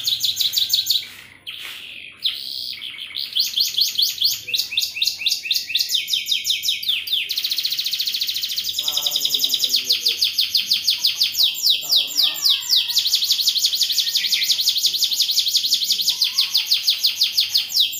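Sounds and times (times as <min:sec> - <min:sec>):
canary singing trills: 0:00.0 - 0:17.9.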